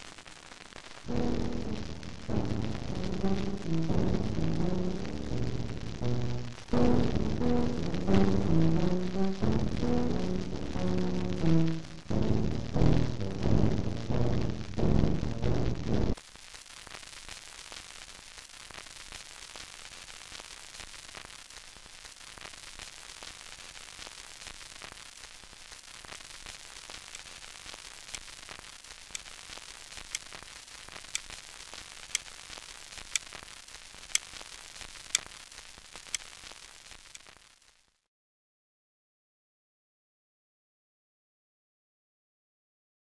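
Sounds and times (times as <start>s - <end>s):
static hiss with crackle: 0.0s - 38.1s.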